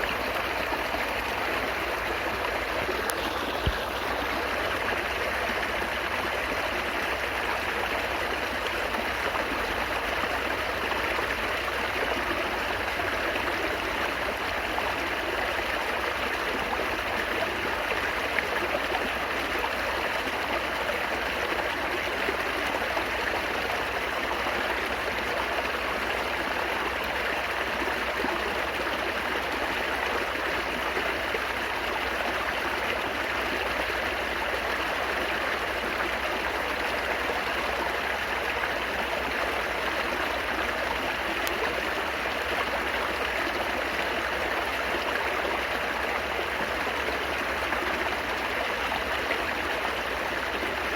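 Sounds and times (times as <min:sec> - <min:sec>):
stream water babbling: 0:00.0 - 0:50.9.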